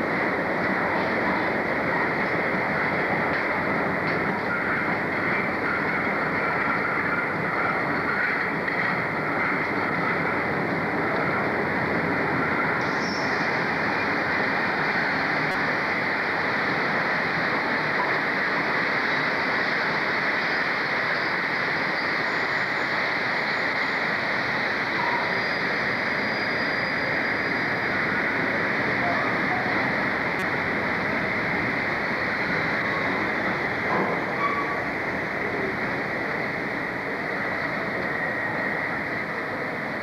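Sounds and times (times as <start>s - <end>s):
train rumbling: 0.0s - 40.0s.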